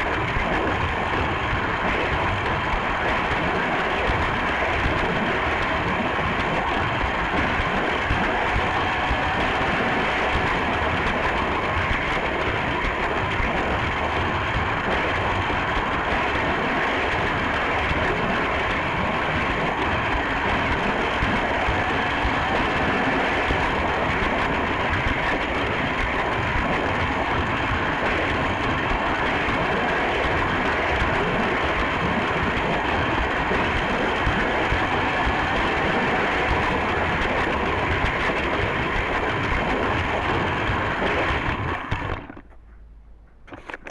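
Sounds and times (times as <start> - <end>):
plastic wagons rattling on track: 0.0 - 42.6.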